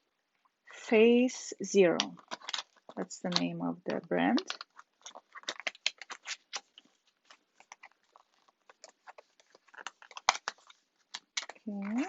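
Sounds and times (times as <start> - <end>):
packaging rustling and clicking: 2.0 - 12.0.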